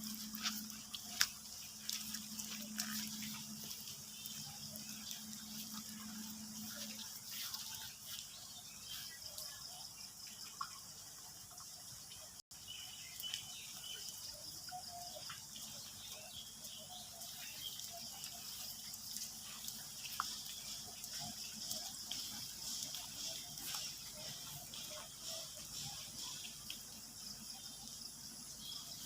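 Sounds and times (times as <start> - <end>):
light rain hiss and patter: 0.0 - 29.0
sharp water drips: 0.0 - 29.0.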